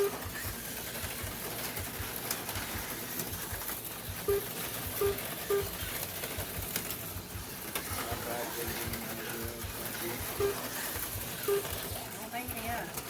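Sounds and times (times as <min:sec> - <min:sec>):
slot car motors whirring: 0:00.0 - 0:13.0.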